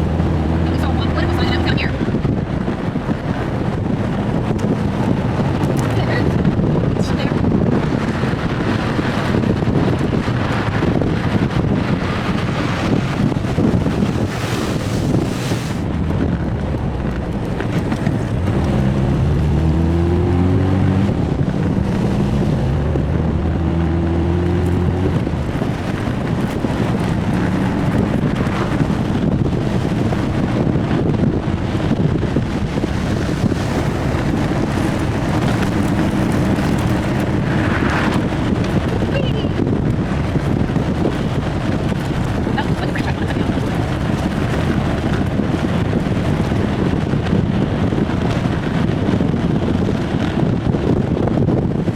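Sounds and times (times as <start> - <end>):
car engine running: 0.0 - 51.6
wind rush on microphone: 0.0 - 51.9.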